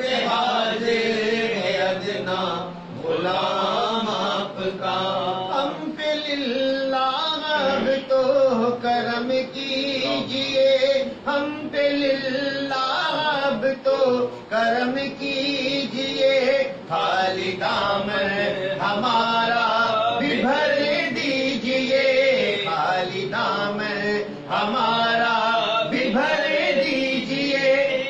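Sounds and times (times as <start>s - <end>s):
person chanting melodically: 0.0s - 28.0s
steady held drone tone: 0.0s - 28.0s.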